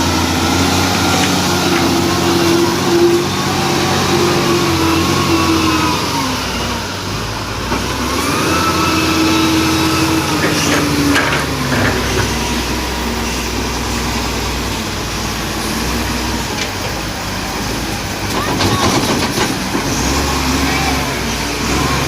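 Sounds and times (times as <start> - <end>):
bulldozer diesel engine revving: 0.0 - 22.0.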